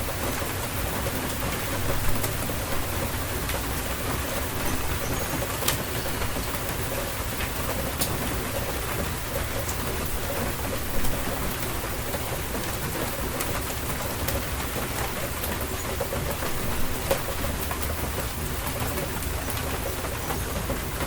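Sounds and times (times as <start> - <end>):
raindrops ticking close by: 0.0 - 21.0
steady rain falling: 0.0 - 21.0.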